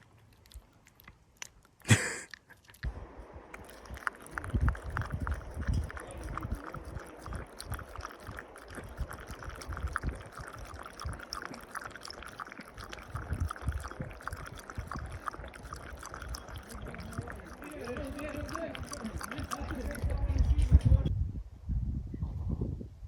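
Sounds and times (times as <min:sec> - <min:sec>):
small wet clicks and trickling: 0:00.0 - 0:21.1
wind buffeting microphone: 0:02.9 - 0:11.6, 0:12.8 - 0:23.0.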